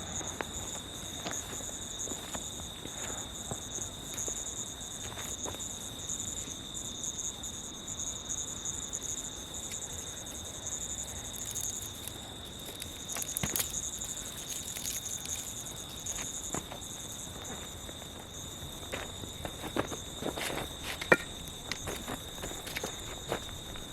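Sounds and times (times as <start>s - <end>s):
insects chirring: 0.0s - 23.9s.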